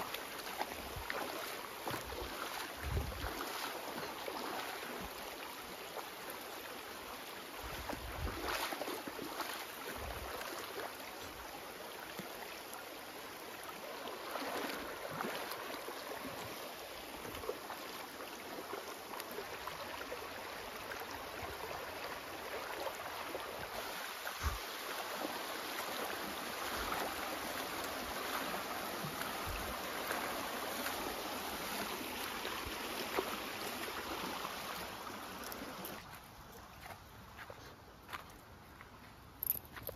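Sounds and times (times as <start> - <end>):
rocky stream running: 0.0 - 39.9.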